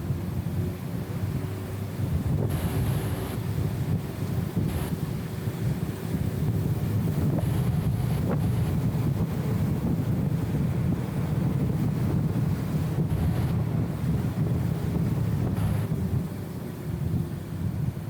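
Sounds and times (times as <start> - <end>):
muffled car engine and road rumble: 0.0 - 18.0.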